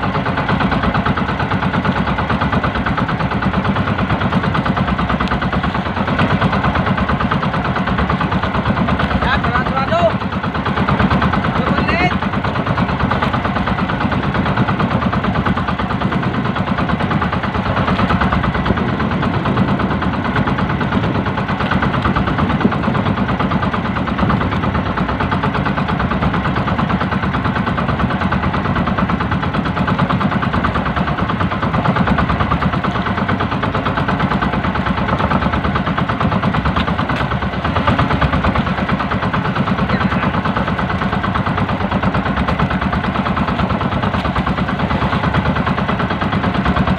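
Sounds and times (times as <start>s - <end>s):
boat engine puttering: 0.0s - 46.9s.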